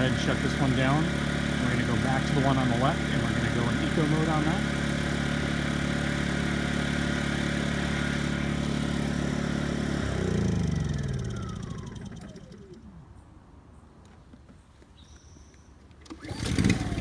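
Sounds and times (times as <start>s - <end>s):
generator engine running: 0.0s - 13.2s, 16.1s - 17.0s.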